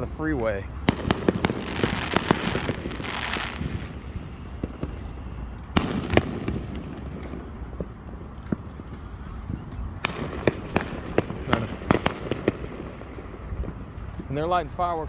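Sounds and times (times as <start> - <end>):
fireworks crackling hiss: 0.0 - 15.0
fireworks popping and banging: 0.0 - 15.0.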